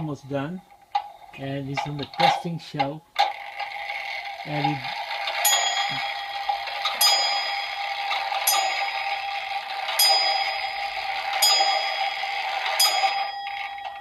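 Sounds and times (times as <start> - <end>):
amplifier hiss and hum: 0.0 - 14.0
clock ticking with metallic ring: 0.7 - 14.0.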